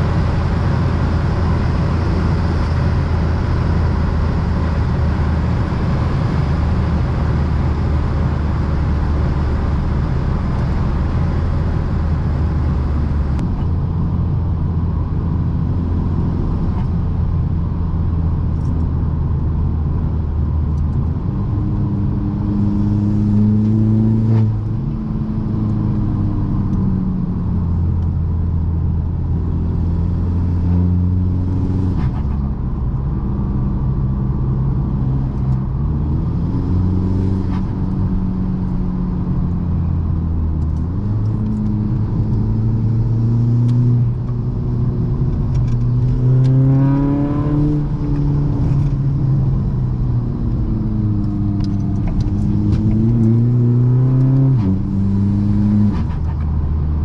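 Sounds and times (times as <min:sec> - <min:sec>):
diesel car engine driving: 0:00.0 - 0:57.0.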